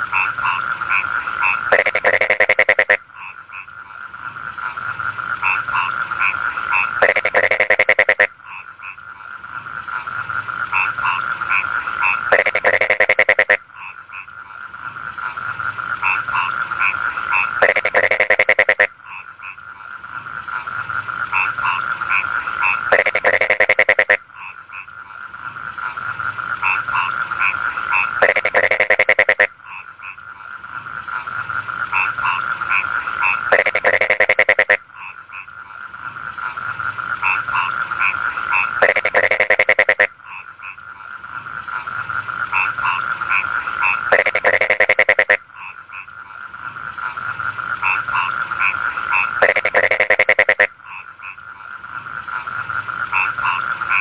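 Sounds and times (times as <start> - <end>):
frogs chirping: 0.0 - 54.0
frogs trilling: 0.0 - 54.0
pulsed frog croak: 0.0 - 54.0.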